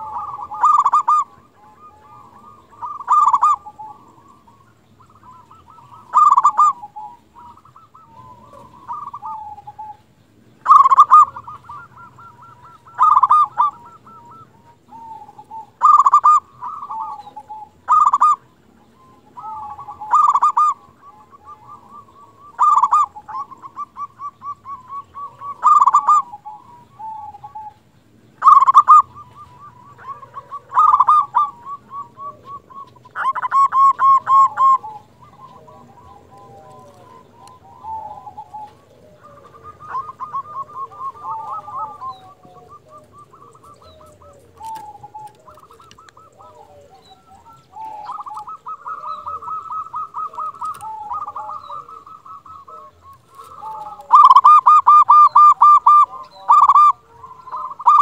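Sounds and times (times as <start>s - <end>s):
dove cooing: 0.0s - 58.0s
soft trilling coos: 0.0s - 58.0s.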